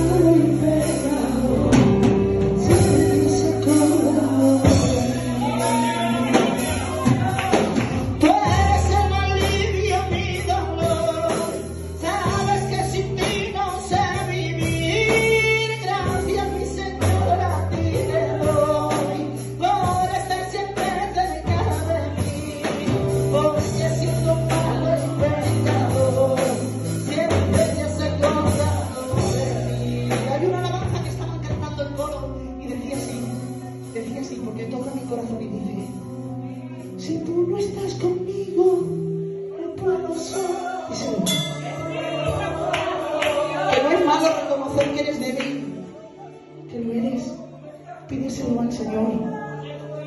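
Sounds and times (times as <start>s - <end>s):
backing music with bass: 0.0s - 50.0s
man singing into a microphone: 0.0s - 50.0s.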